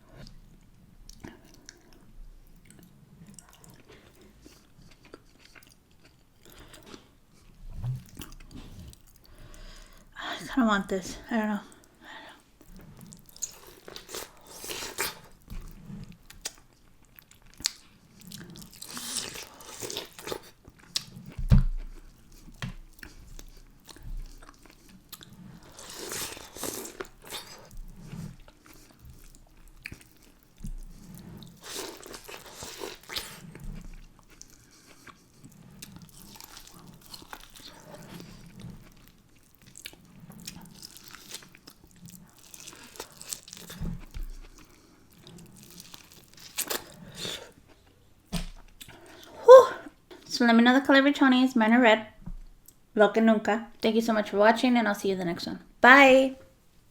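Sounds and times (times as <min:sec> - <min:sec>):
close chewing of food: 0:00.1 - 0:10.2, 0:11.2 - 0:50.3.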